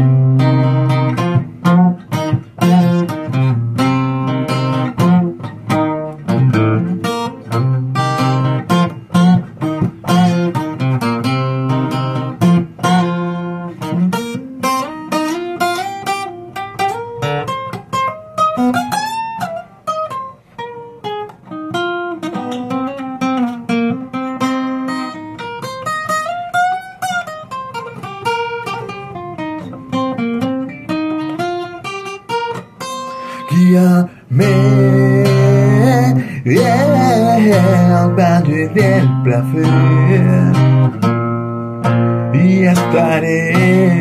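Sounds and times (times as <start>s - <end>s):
acoustic guitar playing: 0.0s - 44.0s.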